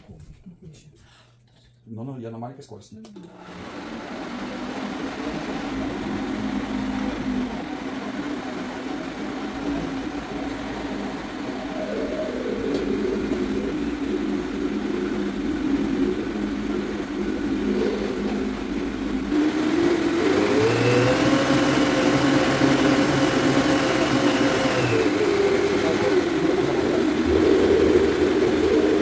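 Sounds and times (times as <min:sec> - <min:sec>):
blender motor running: 0:03.2 - 0:29.0.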